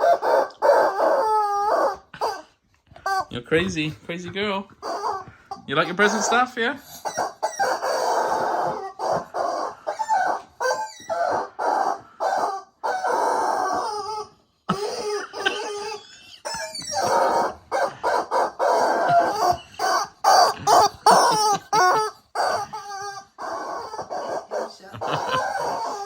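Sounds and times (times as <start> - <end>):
squeaky dog toy squawking: 0.0 - 26.0.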